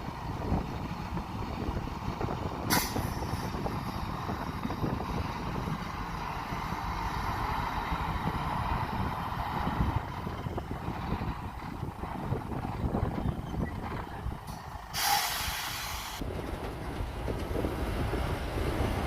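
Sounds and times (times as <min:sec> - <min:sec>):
heavy diesel machinery rumble: 0:00.0 - 0:19.0.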